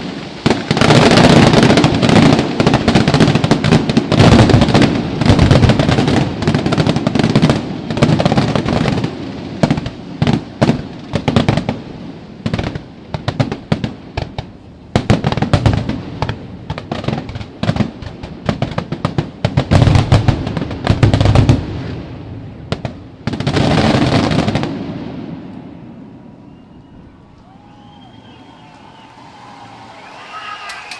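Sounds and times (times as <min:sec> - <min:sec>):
fireworks cracks and booms: 0:00.0 - 0:26.3.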